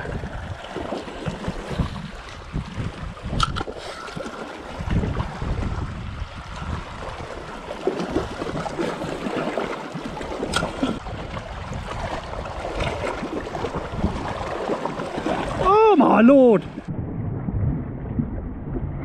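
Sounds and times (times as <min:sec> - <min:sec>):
wind on microphone: 0:00.0 - 0:09.3, 0:10.4 - 0:19.0
small waves lapping on rocks: 0:00.0 - 0:16.8.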